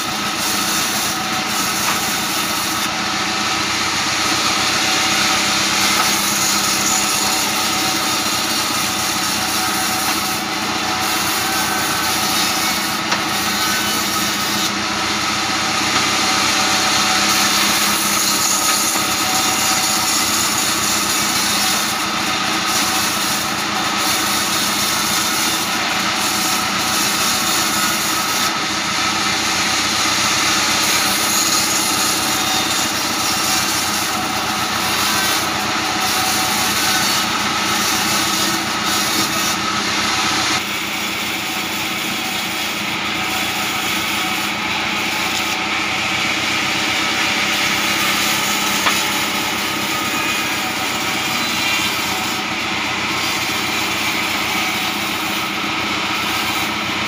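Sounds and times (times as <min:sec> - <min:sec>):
bandsaw cutting wood: 0:00.0 - 0:57.0.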